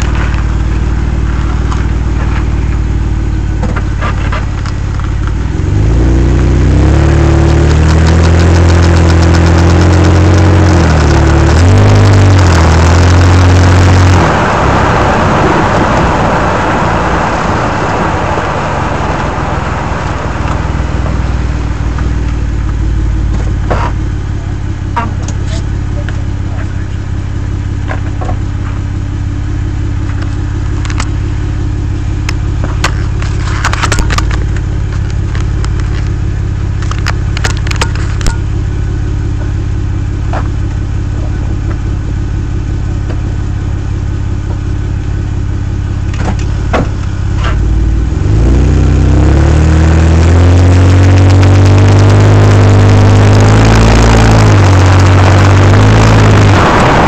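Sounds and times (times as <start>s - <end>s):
engine humming and revving: 0.0s - 57.0s.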